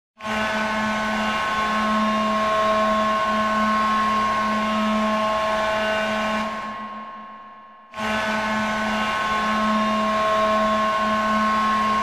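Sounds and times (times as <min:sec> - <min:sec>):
ice hockey goal horn blast: 0:00.2 - 0:07.0, 0:07.9 - 0:12.0.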